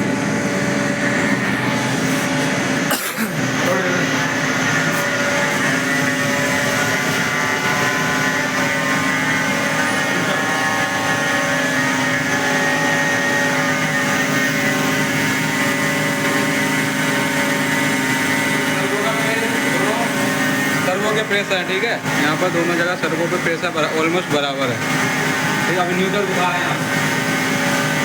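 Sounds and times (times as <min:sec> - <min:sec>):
hydraulic pump humming and whining: 0:00.0 - 0:28.0.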